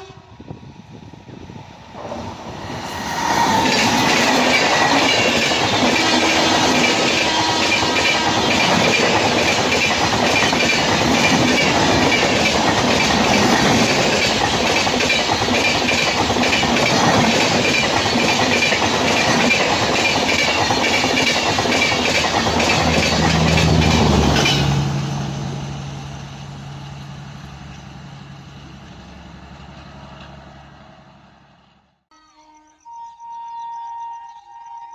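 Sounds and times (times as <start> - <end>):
train coaches rushing past: 0.0 - 31.9.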